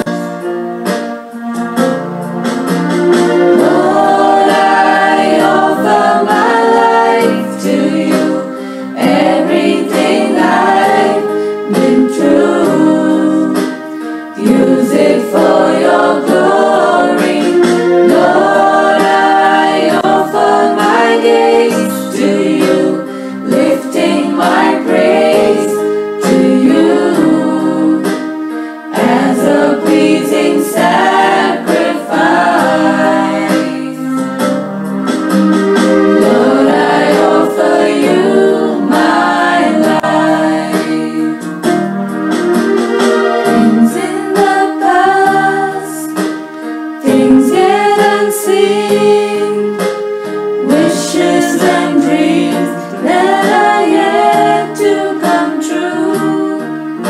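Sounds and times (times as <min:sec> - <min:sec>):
electronic keyboard: 0:00.0 - 0:57.0
choir singing a hymn: 0:02.4 - 0:34.7, 0:35.7 - 0:57.0.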